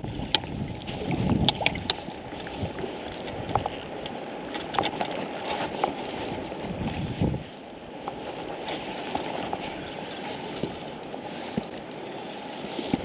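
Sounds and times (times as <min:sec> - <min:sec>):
wind rumble on microphone: 0:00.0 - 0:11.8
lapping sea water: 0:00.0 - 0:13.0.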